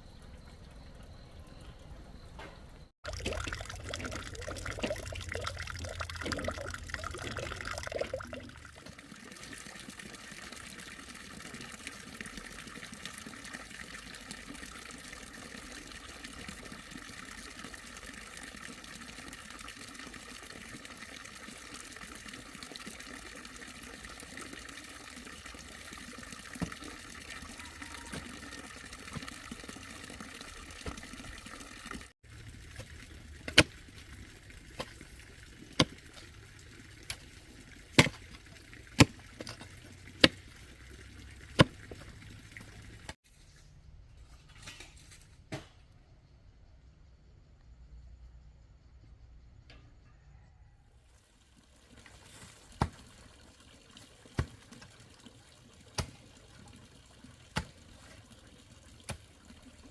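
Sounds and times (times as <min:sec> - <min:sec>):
water trickling: 0:03.0 - 0:43.2, 0:51.2 - 0:59.9
water pouring: 0:03.0 - 0:43.5, 0:51.2 - 0:59.9.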